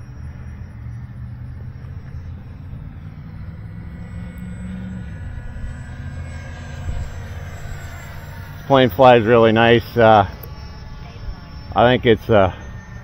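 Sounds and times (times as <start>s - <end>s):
faint high whine: 0.0s - 13.0s
rc jet low rumble: 0.0s - 13.0s.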